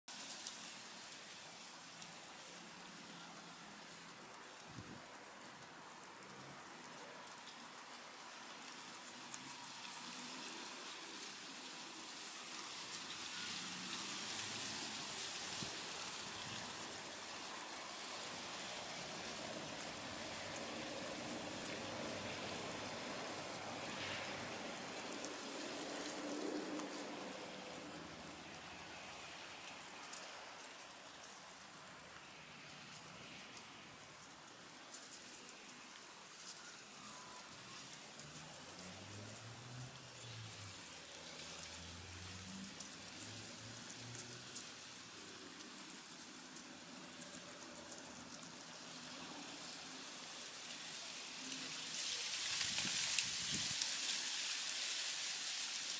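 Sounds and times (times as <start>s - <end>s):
leaves rustling: 0.1s - 55.9s.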